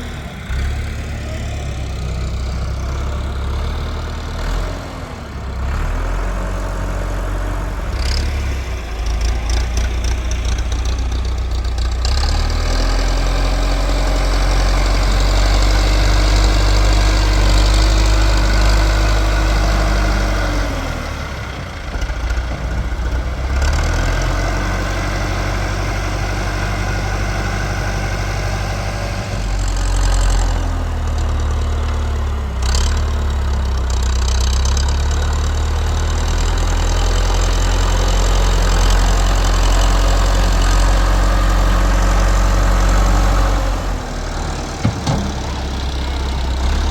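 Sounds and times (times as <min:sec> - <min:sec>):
tractor engine revving: 0:00.0 - 0:46.9.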